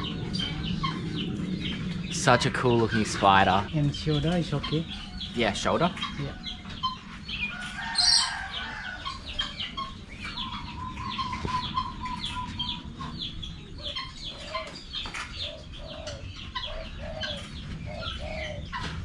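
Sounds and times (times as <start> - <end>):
birds chirping: 0.0 - 19.0
low clucking bird calls: 0.0 - 19.0.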